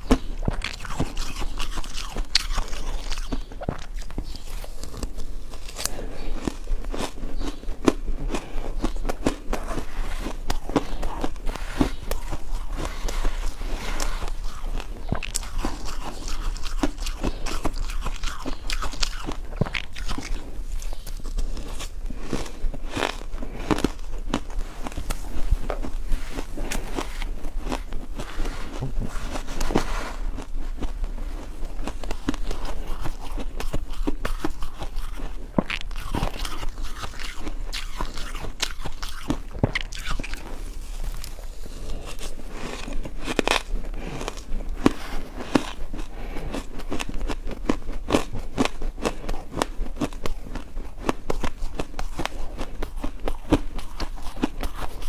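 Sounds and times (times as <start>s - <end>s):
ice crunching being chewed: 0.0s - 55.0s.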